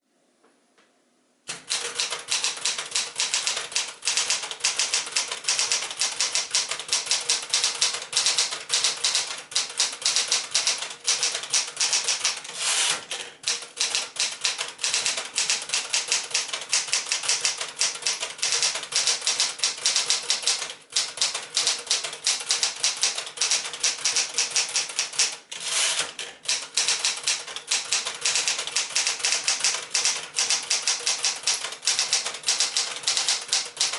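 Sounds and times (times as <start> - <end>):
manual typewriter typing: 1.5 - 33.9.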